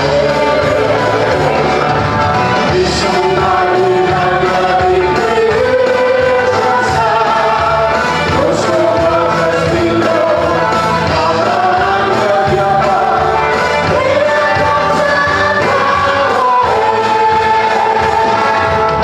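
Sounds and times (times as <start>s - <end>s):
congregation singing: 0.0s - 19.0s
instrumental accompaniment: 0.0s - 19.0s.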